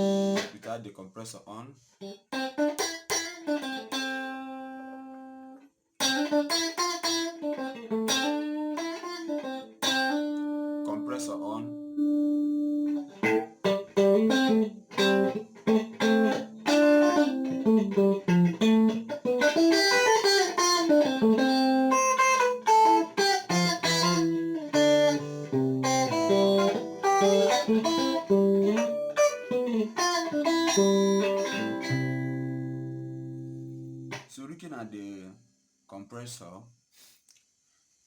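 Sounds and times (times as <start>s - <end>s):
electric guitar single-note lines: 0.0s - 0.6s, 2.0s - 34.2s.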